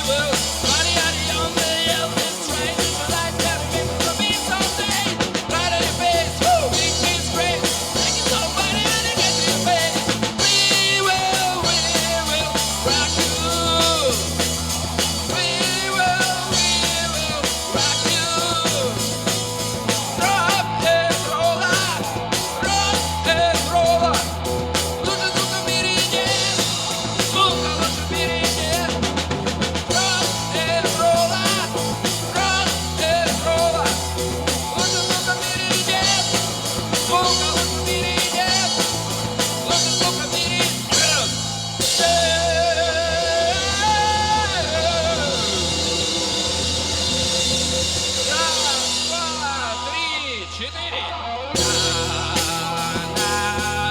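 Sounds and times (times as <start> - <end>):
drum kit beat: 0.0 - 50.8, 51.6 - 53.9
bass line: 0.0 - 53.9
electric guitar lines: 0.0 - 53.9.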